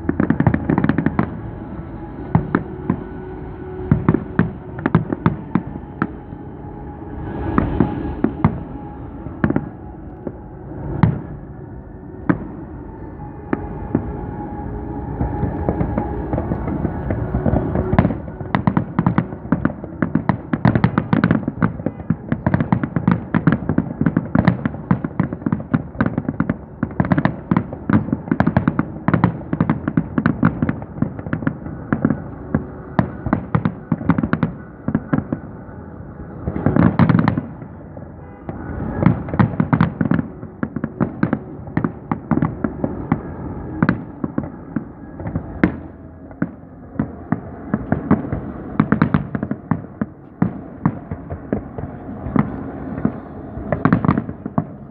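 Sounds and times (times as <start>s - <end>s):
fireworks bangs and crackles: 0.0s - 6.2s, 13.5s - 54.9s.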